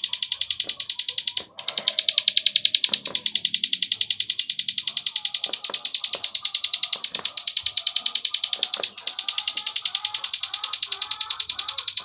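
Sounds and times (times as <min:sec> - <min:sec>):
bird clicking trill: 0:00.0 - 0:12.0.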